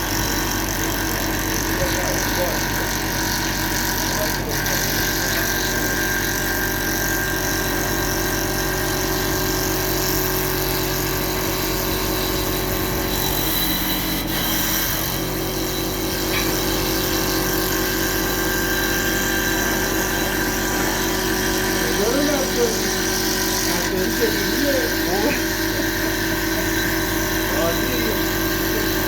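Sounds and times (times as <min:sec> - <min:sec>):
lathe machine hum: 0:00.0 - 0:29.0
wood being cut: 0:00.0 - 0:29.0.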